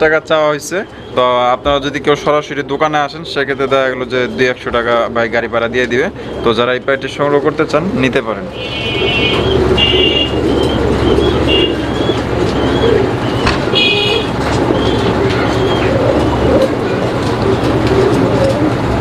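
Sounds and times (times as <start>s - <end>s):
small birds chirping: 0.0s - 18.1s
pigeons cooing: 0.4s - 19.0s.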